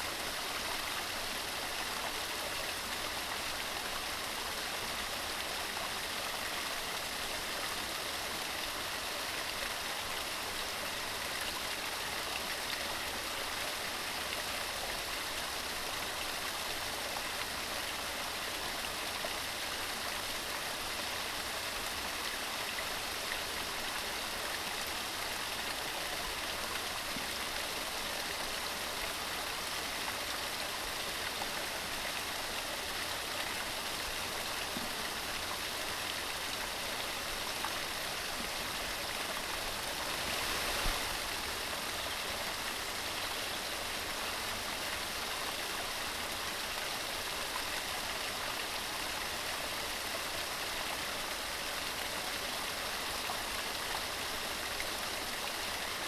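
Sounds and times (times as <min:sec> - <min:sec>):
stream rushing over rocks: 0:08.6 - 0:56.0.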